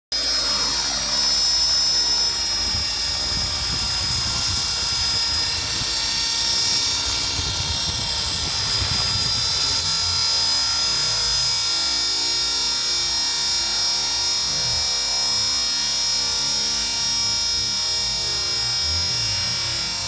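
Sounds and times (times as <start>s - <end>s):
fluttering rotor thrum: 0.2s - 20.0s
high-pitched motor whine: 0.2s - 20.0s.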